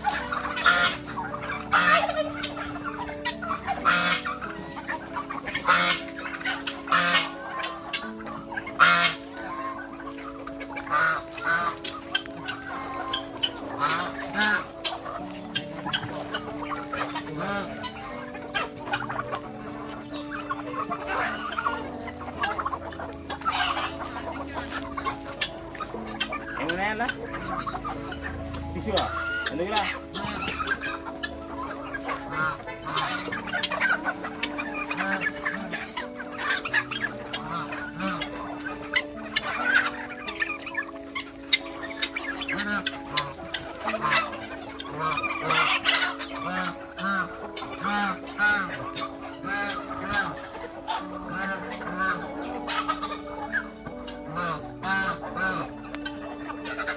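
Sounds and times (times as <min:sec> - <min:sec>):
background music with held notes: 0:00.0 - 0:56.9
chickens clucking: 0:00.0 - 0:56.9.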